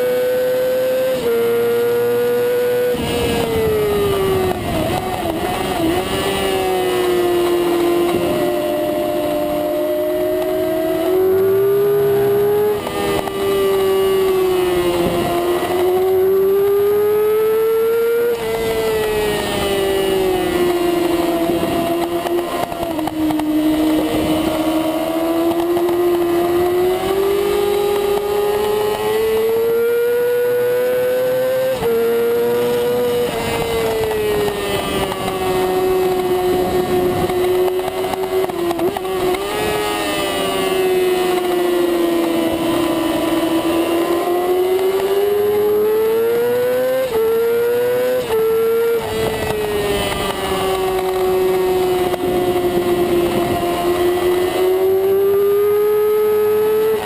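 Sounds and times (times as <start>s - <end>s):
motorcycle engine at high revs: 0.0s - 57.0s
wind noise: 1.1s - 57.0s.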